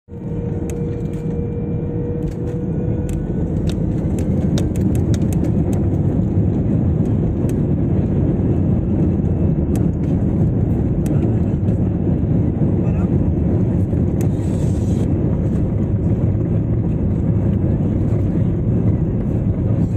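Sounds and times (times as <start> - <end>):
jet engine low rumble: 0.0 - 19.9.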